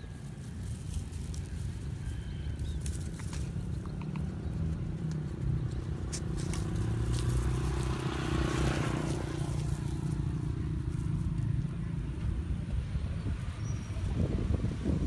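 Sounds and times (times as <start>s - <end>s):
road traffic rumble: 0.0s - 15.0s
vehicle passing: 0.0s - 15.0s.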